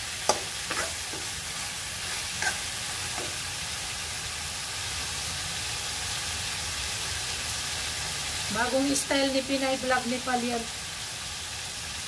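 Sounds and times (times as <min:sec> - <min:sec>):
food sizzling in wok: 0:00.0 - 0:12.0.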